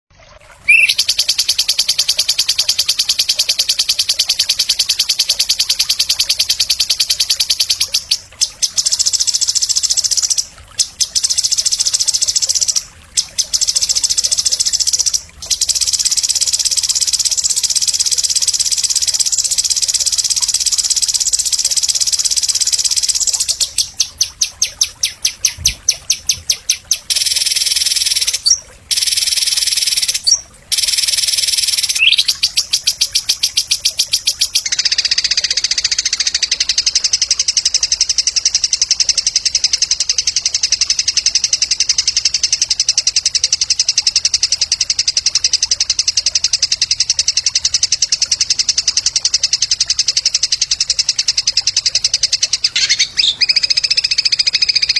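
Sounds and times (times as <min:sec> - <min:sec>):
songbird fast high trill: 0:00.6 - 0:41.4, 0:49.0 - 0:54.9.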